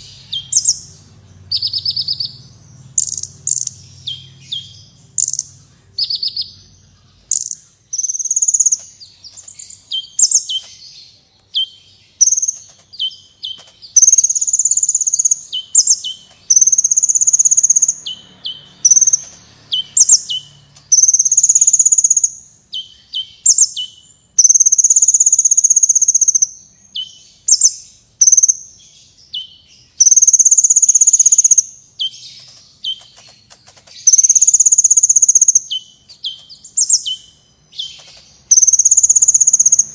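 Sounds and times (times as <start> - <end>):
sunbird singing high-pitched song: 0.0 - 39.9.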